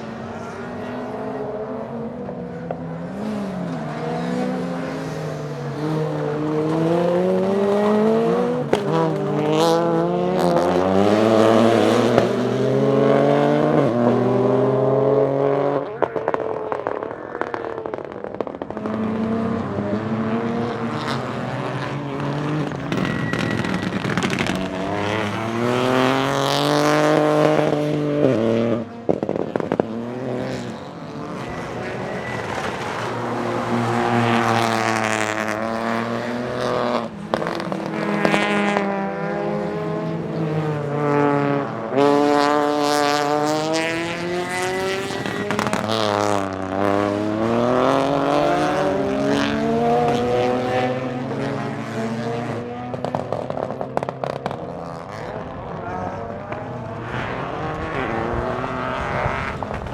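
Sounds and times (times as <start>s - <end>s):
car engine revving through gears: 1.4s - 16.4s, 17.4s - 59.9s.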